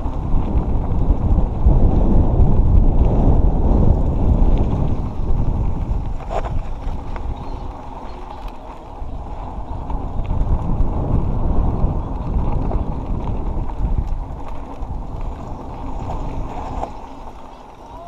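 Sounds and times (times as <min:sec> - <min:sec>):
bike clicks and rattles: 0:00.0 - 0:18.0
bike tyres rumbling on dirt: 0:00.0 - 0:18.0
wind buffeting microphone: 0:00.0 - 0:18.0.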